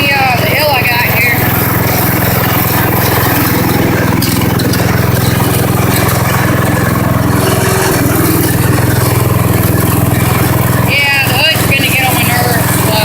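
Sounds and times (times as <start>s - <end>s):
lawn tractor engine running: 0.0s - 13.0s.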